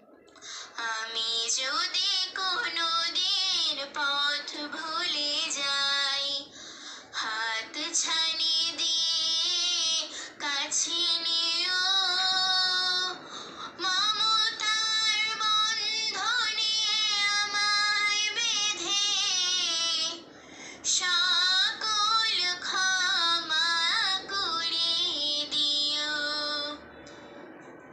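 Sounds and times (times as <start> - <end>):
girl singing: 0.8 - 6.5, 7.2 - 13.2, 13.8 - 20.2, 20.9 - 26.8.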